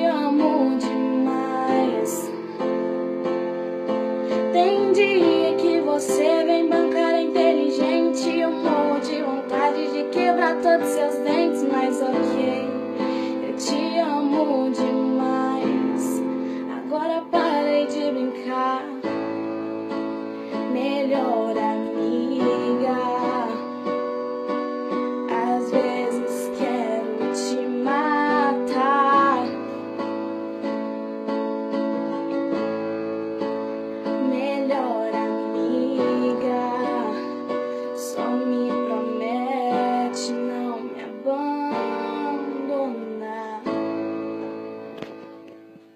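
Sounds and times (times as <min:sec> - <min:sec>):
woman singing: 0:00.0 - 0:03.0, 0:03.9 - 0:30.4, 0:34.0 - 0:44.6
pop music with guitar and piano: 0:00.0 - 0:45.9.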